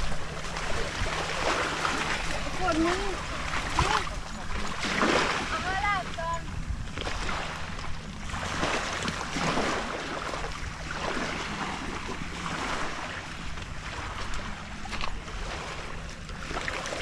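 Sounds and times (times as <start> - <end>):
low steady hum: 0.0 - 17.0
small waves washing on beach: 0.0 - 17.0
wind on microphone: 0.0 - 17.0.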